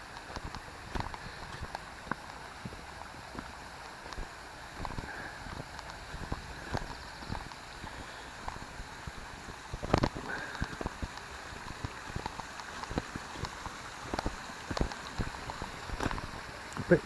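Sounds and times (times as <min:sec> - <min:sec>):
footsteps on slippery path: 0:00.0 - 0:17.0
stream and waterfall rushing: 0:00.0 - 0:17.0.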